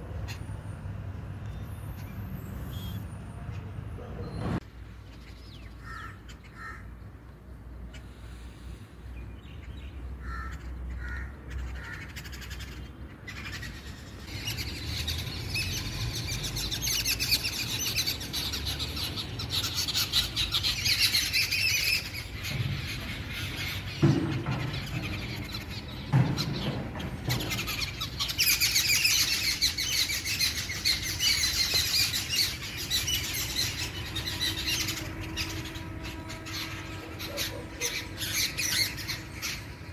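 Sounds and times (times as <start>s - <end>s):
birds chattering: 1.5s - 39.9s.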